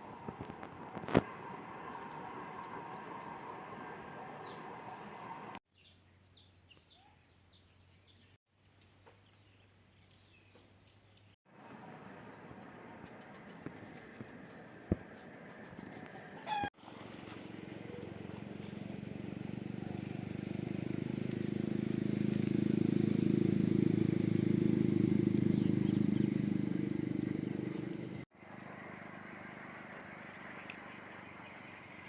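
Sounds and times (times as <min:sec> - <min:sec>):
motor engine humming: 0:00.0 - 0:05.6, 0:11.5 - 0:32.0
quiet outdoor ambience: 0:00.0 - 0:32.0.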